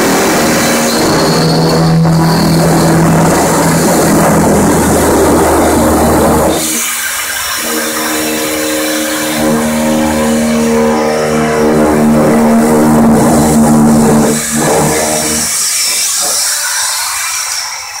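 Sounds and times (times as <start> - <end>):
electric metal shear whining: 0.0 - 17.8
hiss of shearing metal: 0.0 - 18.0.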